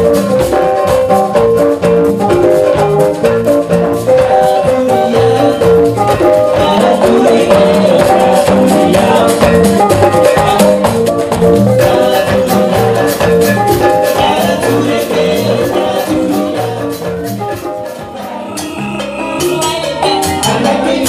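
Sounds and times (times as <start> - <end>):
congas: 0.0 - 21.0
drums: 0.0 - 21.0
salsa band playing: 0.0 - 21.0
upright bass: 0.0 - 21.0.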